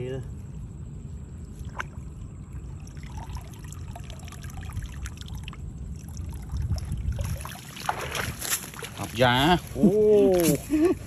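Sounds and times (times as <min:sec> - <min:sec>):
steady low rumble: 0:00.0 - 0:11.0
water trickling and splashing: 0:01.4 - 0:10.4.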